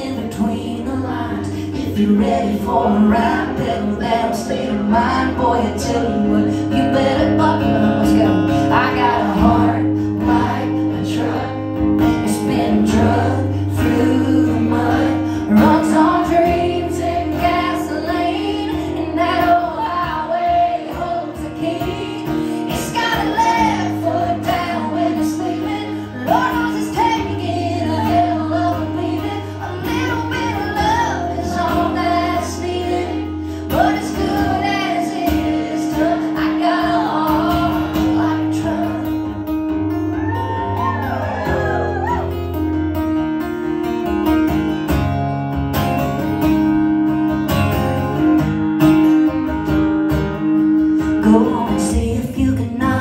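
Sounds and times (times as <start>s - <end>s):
acoustic guitar: 0.0s - 53.0s
woman singing country song: 0.0s - 53.0s.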